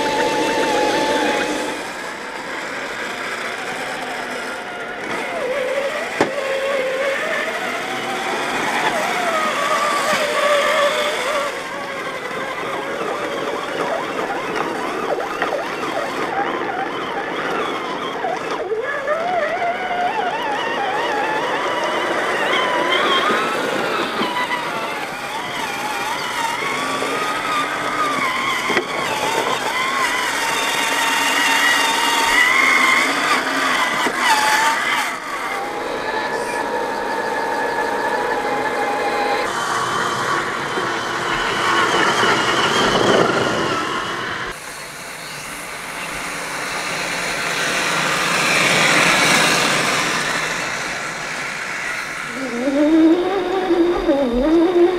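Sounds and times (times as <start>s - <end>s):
toy truck electric motors whining: 0.0s - 54.9s.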